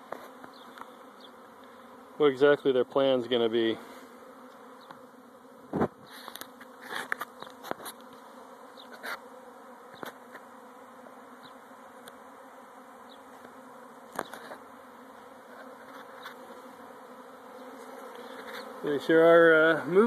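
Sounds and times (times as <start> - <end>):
single bee buzzing close: 0.0 - 20.0
swarming bees humming: 0.0 - 20.0.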